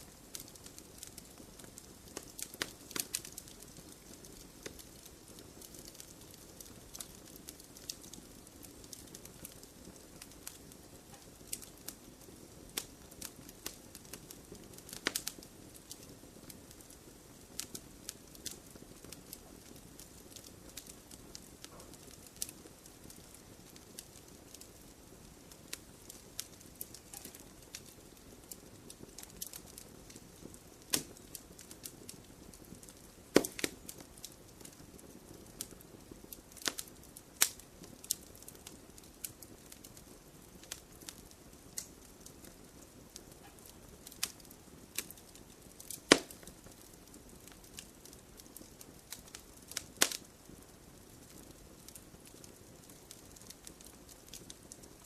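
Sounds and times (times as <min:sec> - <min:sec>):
campfire crackling and popping: 0:00.0 - 0:55.0
campfire hissing: 0:00.0 - 0:55.0.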